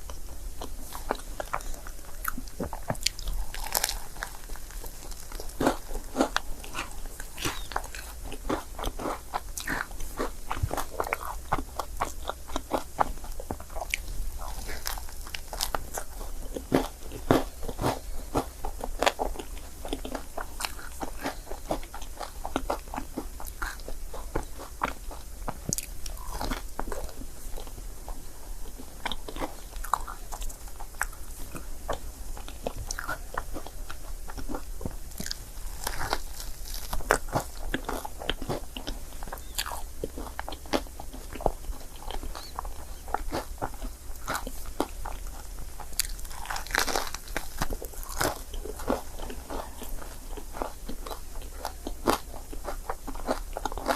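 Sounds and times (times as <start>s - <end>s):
person chewing crepe: 0.0s - 53.9s.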